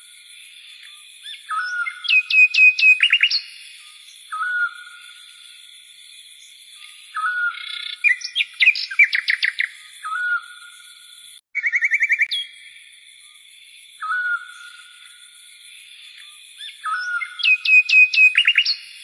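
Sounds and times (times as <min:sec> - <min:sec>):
songbirds chirping and singing: 0:00.0 - 0:12.6, 0:13.2 - 0:19.0.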